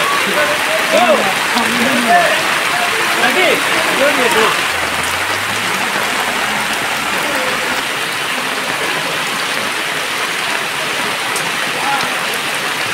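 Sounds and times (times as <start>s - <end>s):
heavy rain on water: 0.0s - 12.9s.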